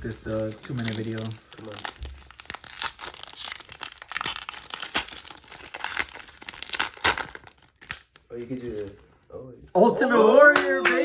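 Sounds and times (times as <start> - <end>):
card pack wrapper crinkling: 0.0 - 9.0.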